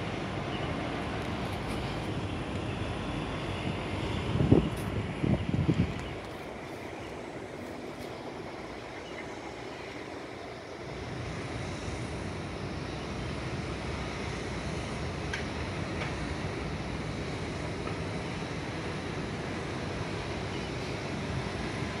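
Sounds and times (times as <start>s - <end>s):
distant road traffic hum: 0.0s - 22.0s.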